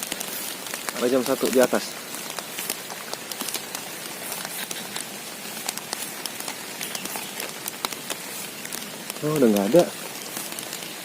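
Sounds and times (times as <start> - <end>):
raindrops ticking close by: 0.0 - 11.0
steady rain falling: 0.0 - 11.0.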